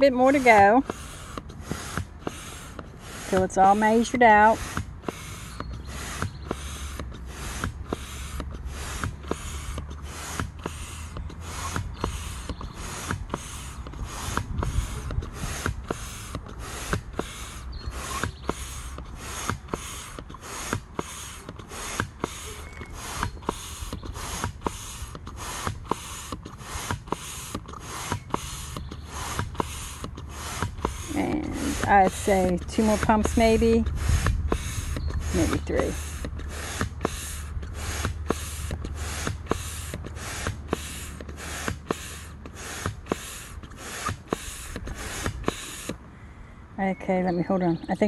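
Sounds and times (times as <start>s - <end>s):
manual air pump puffs: 0.0s - 48.0s.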